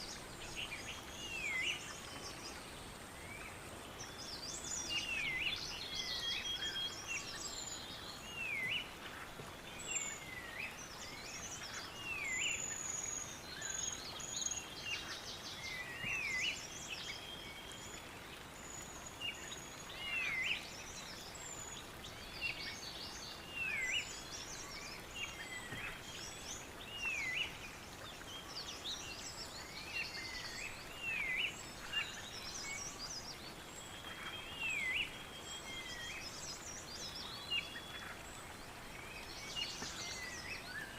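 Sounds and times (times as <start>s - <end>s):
songbirds singing: 0.0s - 40.9s
steady background hiss: 0.0s - 40.9s.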